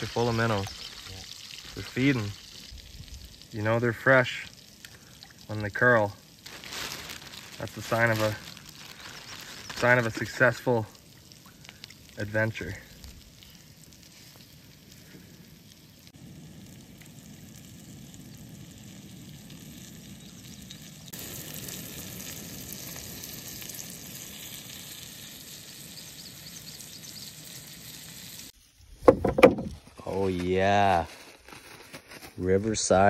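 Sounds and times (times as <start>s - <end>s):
fish frying in butter: 0.0s - 28.6s.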